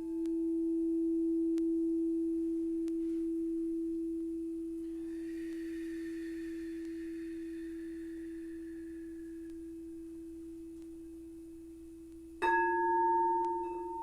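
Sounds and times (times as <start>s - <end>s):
faint high ringing: 0.0s - 14.0s
singing bowl sustained tone: 0.0s - 14.0s.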